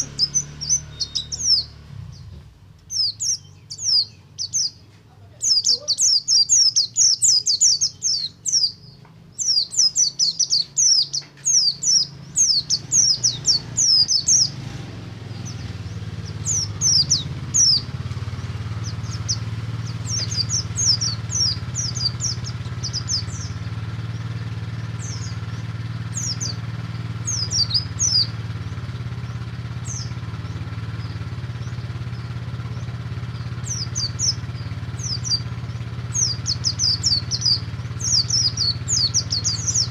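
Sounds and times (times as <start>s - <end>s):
bird chirping: 0.0s - 39.9s
low engine hum: 0.0s - 39.9s.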